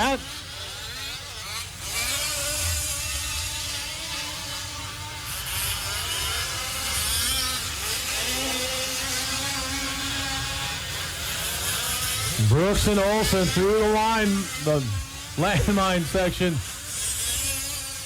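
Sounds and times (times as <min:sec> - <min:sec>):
small two-stroke engines buzzing: 0:00.0 - 0:18.0.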